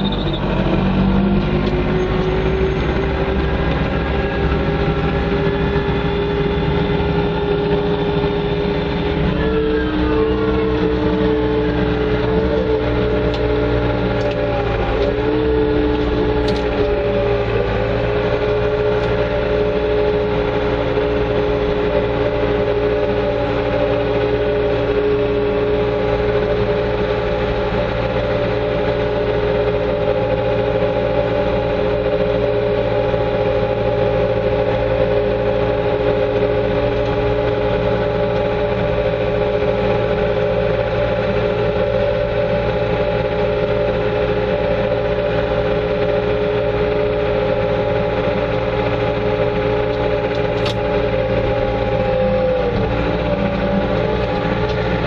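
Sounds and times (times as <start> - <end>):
loader engine running: 0.0 - 55.0
steady whine: 0.0 - 55.0.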